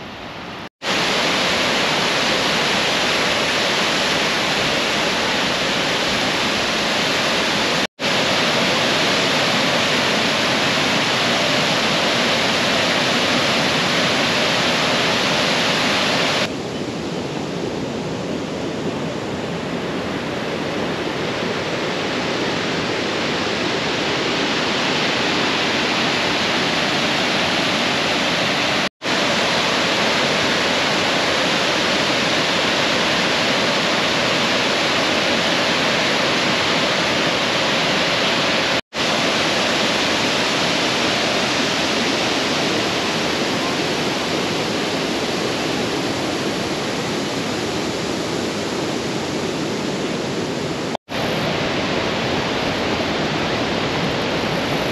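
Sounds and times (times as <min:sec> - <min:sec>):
water rushing over rock ledge: 0:00.8 - 0:16.5, 0:21.3 - 0:54.9.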